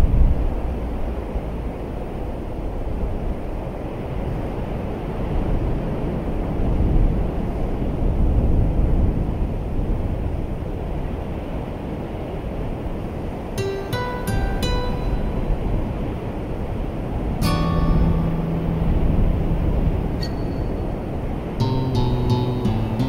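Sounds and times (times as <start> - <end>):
sea surf rushing: 0.1 - 23.0.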